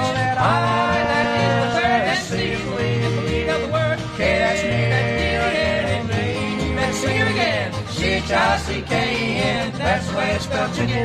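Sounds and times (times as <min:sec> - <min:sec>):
bluegrass string band playing: 0:00.0 - 0:11.0.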